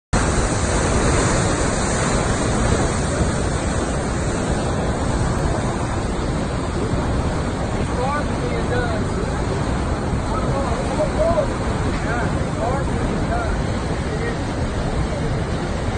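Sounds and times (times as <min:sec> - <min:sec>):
turbulent water rushing: 0:00.1 - 0:15.9.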